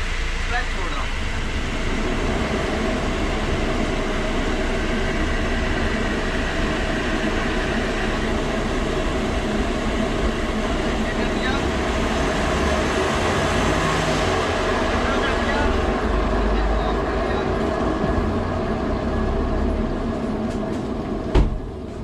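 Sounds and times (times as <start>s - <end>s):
car engine running: 0.0s - 22.0s
wheel bearing drone: 0.0s - 22.0s.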